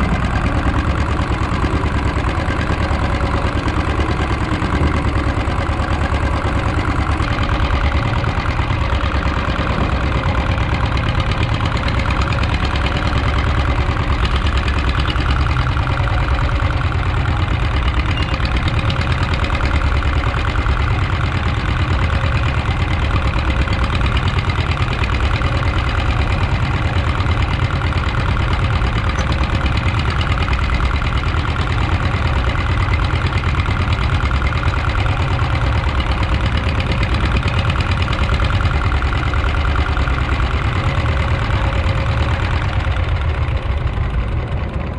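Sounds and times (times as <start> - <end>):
boat engine chugging: 0.0 - 44.9.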